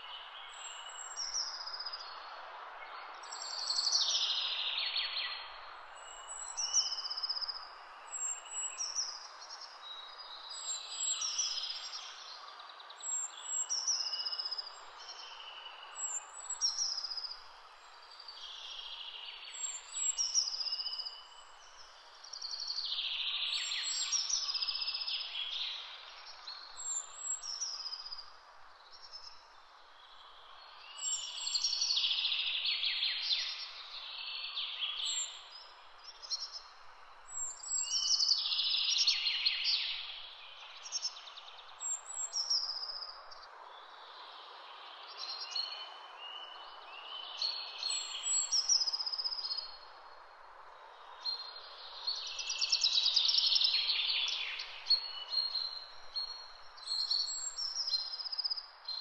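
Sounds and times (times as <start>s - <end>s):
outdoor background noise: 0.0s - 59.0s
songbird singing: 0.0s - 59.0s.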